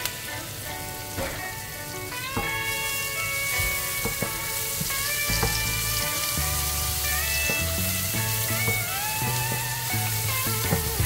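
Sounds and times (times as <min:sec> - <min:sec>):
background music: 0:00.0 - 0:11.0
onion and garlic sizzling in oil: 0:00.0 - 0:11.0.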